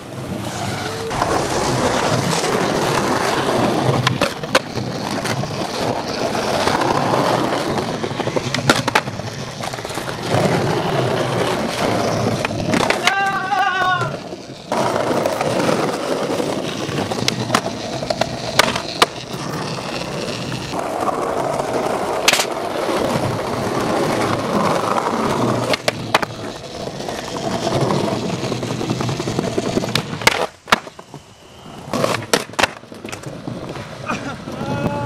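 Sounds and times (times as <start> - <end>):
skateboard clacking: 0.0 - 35.0
skateboard wheels rolling on concrete: 0.0 - 35.0.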